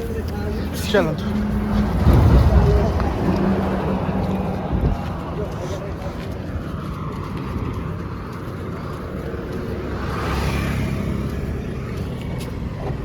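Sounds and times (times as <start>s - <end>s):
vehicle engine and tyre rumble: 0.0s - 13.0s
vehicle passing close by: 0.7s - 13.0s.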